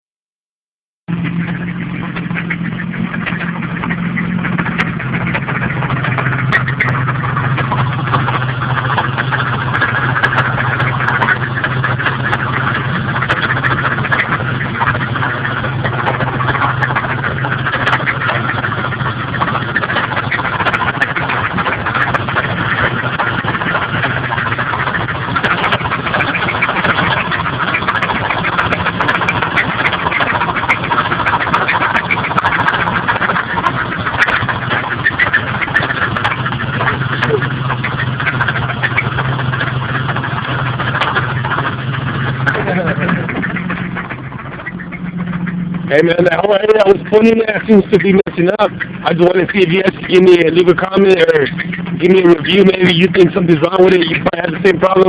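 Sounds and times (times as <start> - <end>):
car engine running: 1.0 - 55.0.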